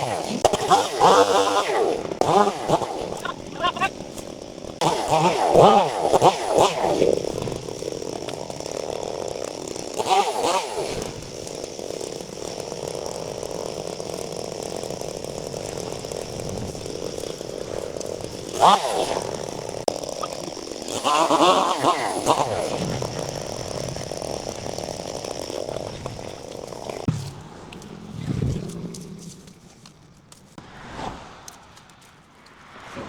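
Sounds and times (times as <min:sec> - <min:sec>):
small petrol engine revving: 0:00.0 - 0:30.6.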